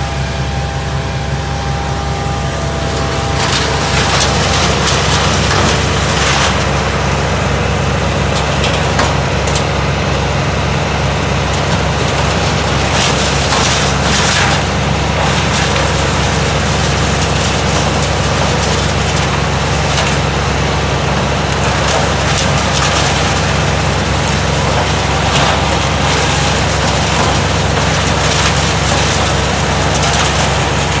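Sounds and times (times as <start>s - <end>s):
wood chipper engine humming: 0.0s - 31.0s
wood cracking in chipper: 2.0s - 31.0s.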